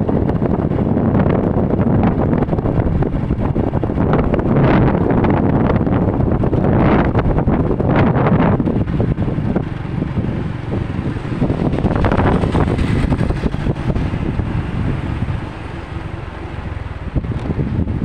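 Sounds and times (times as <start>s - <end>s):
low steady rumble: 0.0s - 18.0s
wind noise on microphone: 0.0s - 18.0s.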